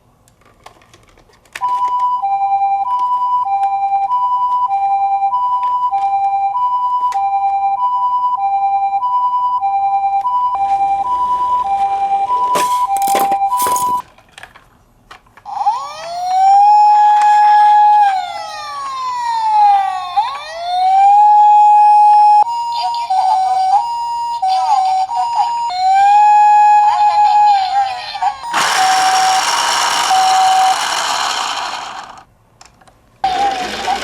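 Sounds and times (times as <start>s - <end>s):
hi-lo two-tone ambulance siren: 1.6s - 14.0s, 15.5s - 31.8s
police siren wailing: 2.2s - 14.0s, 15.5s - 32.0s.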